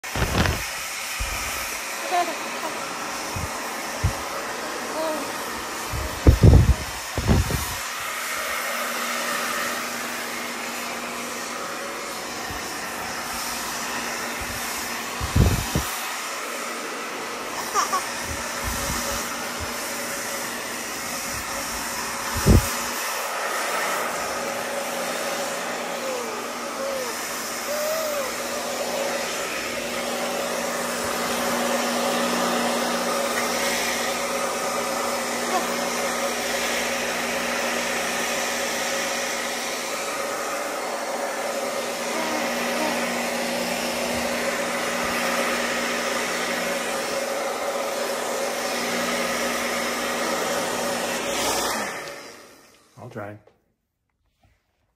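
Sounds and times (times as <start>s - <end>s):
hair dryer running: 0.0s - 53.1s.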